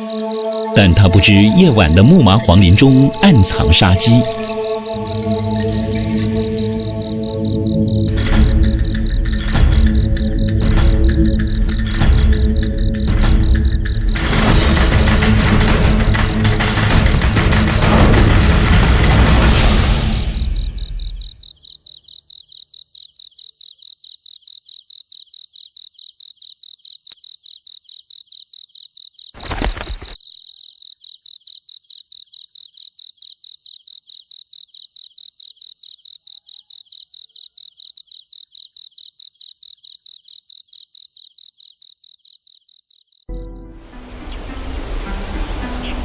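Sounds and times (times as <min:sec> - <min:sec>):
insect chirping: 0:00.0 - 0:46.0.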